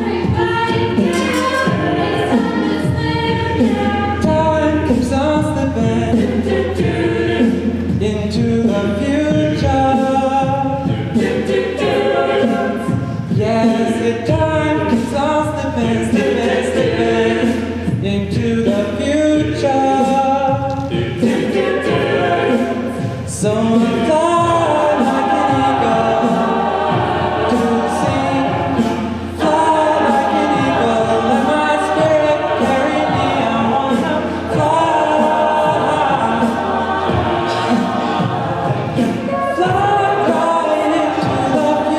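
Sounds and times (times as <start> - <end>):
a cappella choir singing: 0.0 - 41.9
percussive beat: 0.0 - 41.9.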